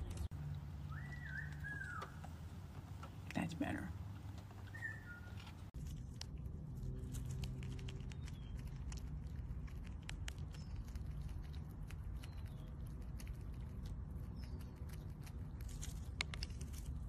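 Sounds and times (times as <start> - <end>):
faint low hum: 0.0 - 17.0
squirrel gnawing nut: 3.2 - 17.0.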